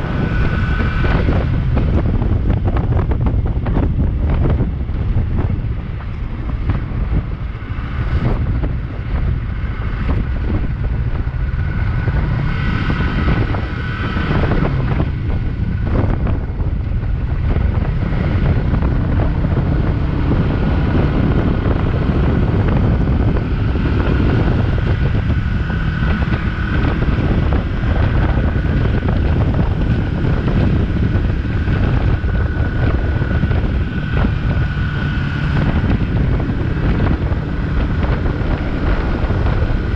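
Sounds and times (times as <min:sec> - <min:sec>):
motorcycle engine at speed: 0:00.0 - 0:39.9
wind buffeting microphone: 0:00.0 - 0:39.9.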